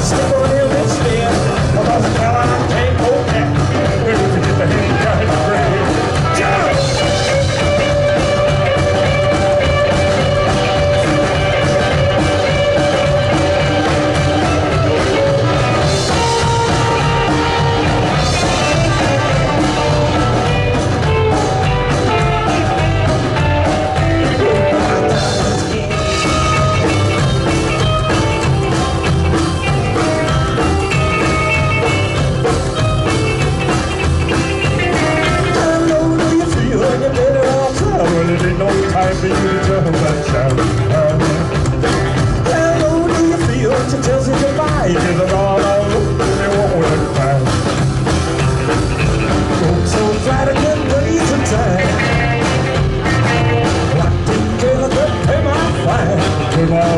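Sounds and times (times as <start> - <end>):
person singing: 0.0 - 32.2, 34.6 - 47.7, 49.5 - 56.9
rock band playing live: 0.0 - 56.9.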